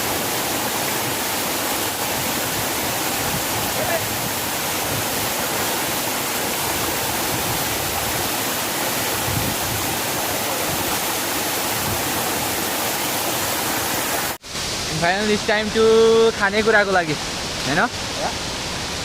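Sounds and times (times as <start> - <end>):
waterfall rushing and splashing: 0.0 - 19.0.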